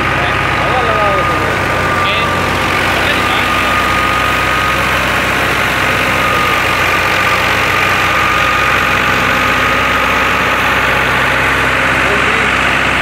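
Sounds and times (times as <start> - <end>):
high whine: 0.0 - 13.0
thresher running: 0.0 - 13.0
tractor diesel engine under load: 0.0 - 13.0.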